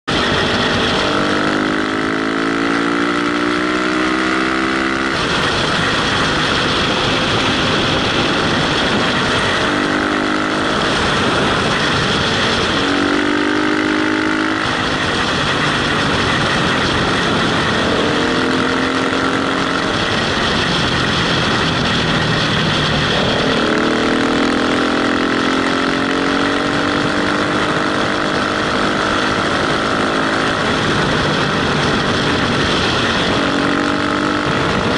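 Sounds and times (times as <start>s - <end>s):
motorcycle engine accelerating: 0.0s - 34.9s
wind rushing on microphone: 0.1s - 34.9s.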